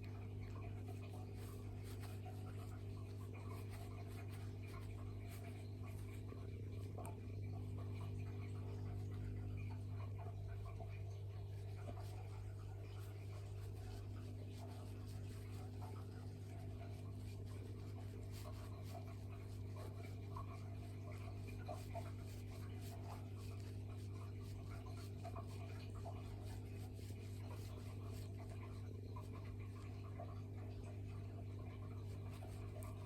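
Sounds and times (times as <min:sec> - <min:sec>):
faint rustling and scratching: 0:00.0 - 0:33.0
steady low hum: 0:00.0 - 0:33.0.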